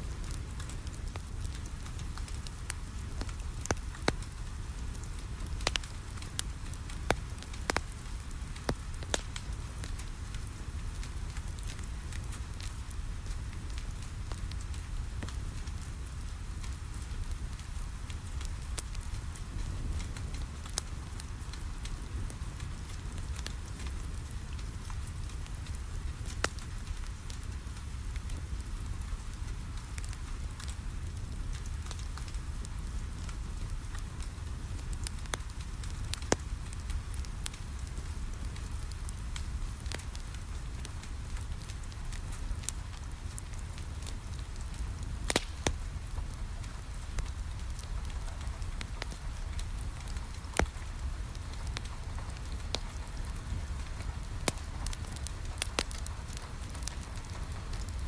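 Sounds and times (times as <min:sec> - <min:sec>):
wood fire crackling: 0:00.0 - 0:58.0
sharp pops from fire: 0:00.2 - 0:58.0.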